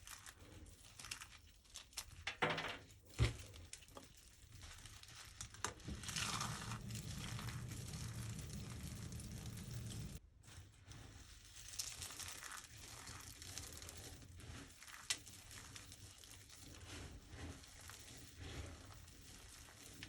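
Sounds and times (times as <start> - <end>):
dry soap crackling when crushed: 0.0 - 2.4, 3.1 - 10.2, 11.1 - 20.0.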